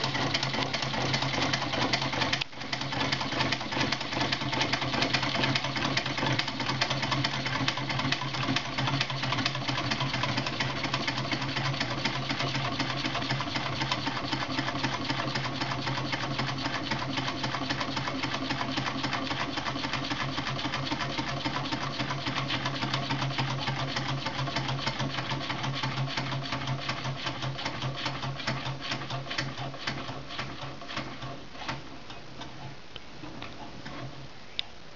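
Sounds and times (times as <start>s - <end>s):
small engine linkage clattering: 0.0s - 32.7s.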